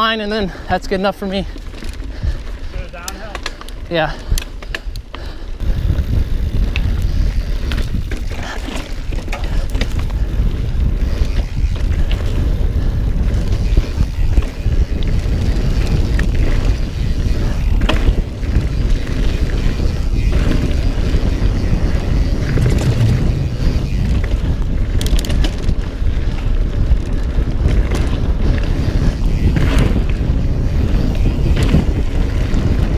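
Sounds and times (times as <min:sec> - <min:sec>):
bike rattling over bumps: 0:00.0 - 0:32.9
mountain bike rolling on dirt: 0:00.0 - 0:32.9
wind buffeting microphone: 0:00.0 - 0:32.9.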